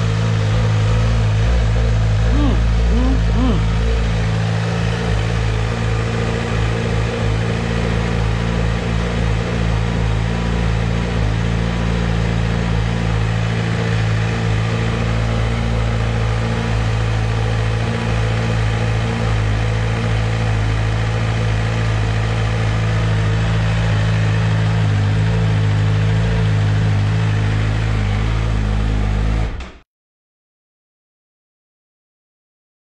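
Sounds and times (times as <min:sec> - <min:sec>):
motorcycle engine idling: 0:00.0 - 0:29.5.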